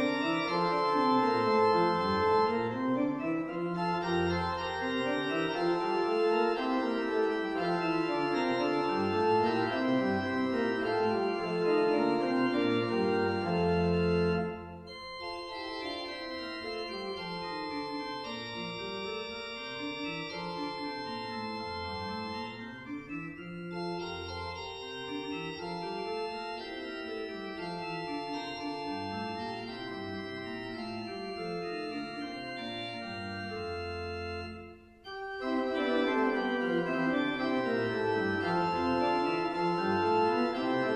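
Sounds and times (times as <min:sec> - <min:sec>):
church organ playing: 0:00.0 - 0:40.9.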